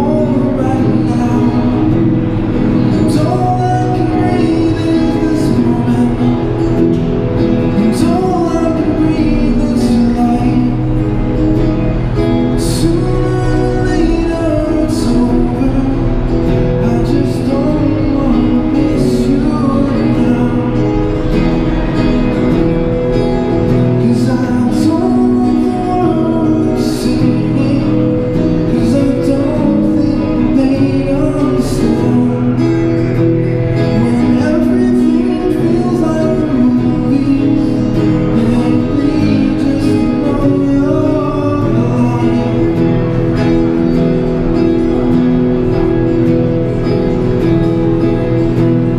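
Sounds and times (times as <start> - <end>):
man singing: 0.0 - 22.5, 23.5 - 45.1
acoustic guitar strumming: 0.0 - 48.9.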